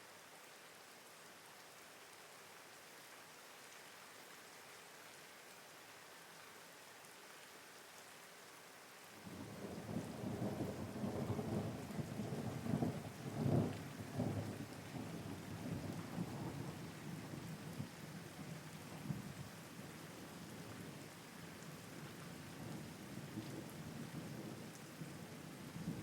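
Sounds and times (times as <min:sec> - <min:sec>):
rain hiss: 0:00.0 - 0:26.0.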